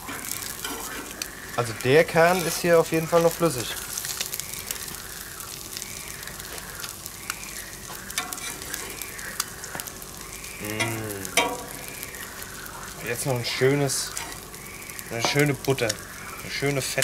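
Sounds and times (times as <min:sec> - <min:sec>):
bacon and eggs sizzling: 0:00.0 - 0:17.0.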